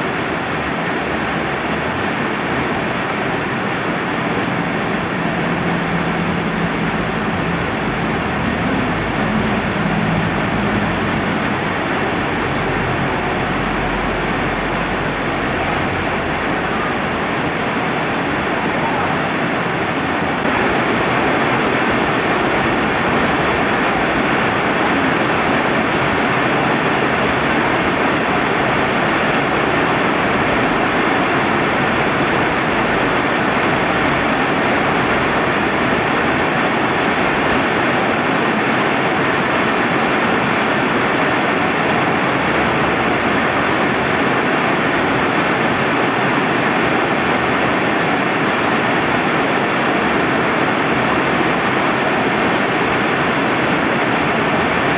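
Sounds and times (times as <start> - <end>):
river flowing: 0.0 - 54.9
steady rain: 0.0 - 54.9.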